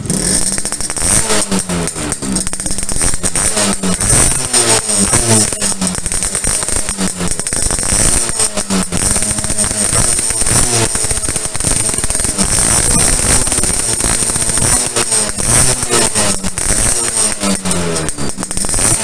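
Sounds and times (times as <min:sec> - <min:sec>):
two-stroke engine crackling: 0:00.0 - 0:19.0.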